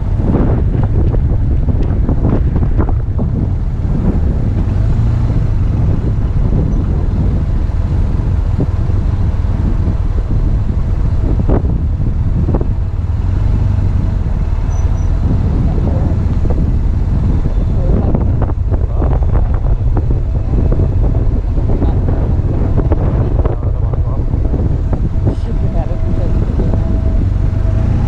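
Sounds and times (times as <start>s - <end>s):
motorcycle engine rumble: 0.0s - 28.0s
road and wind noise: 0.0s - 28.0s.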